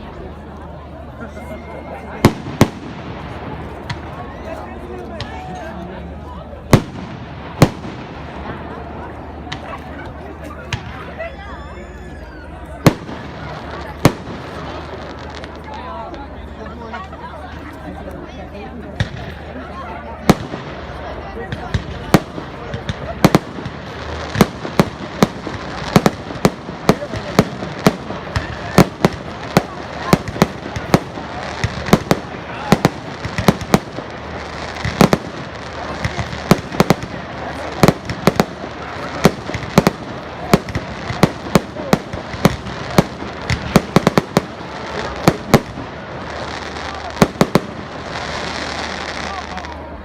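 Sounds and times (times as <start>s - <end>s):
background noise: 0.0s - 50.0s
steady background noise: 0.0s - 50.0s
fireworks bangs: 2.0s - 5.6s, 6.6s - 16.1s, 19.0s - 50.0s.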